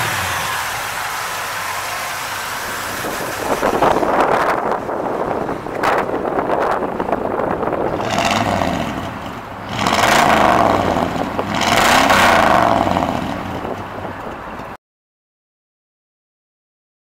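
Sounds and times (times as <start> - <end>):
pickup engine revving: 0.0 - 14.6.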